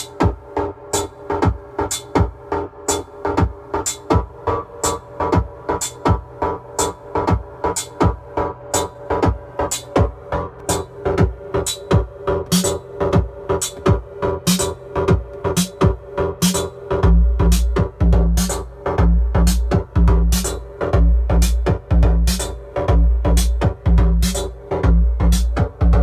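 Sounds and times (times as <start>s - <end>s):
drum machine hits: 0.0s - 26.0s
heavy bass drum: 0.0s - 26.0s.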